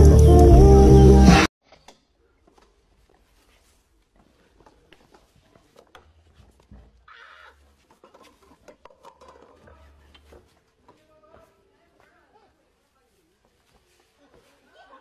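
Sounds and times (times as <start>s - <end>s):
scuffling and shuffling: 2.4s - 15.0s.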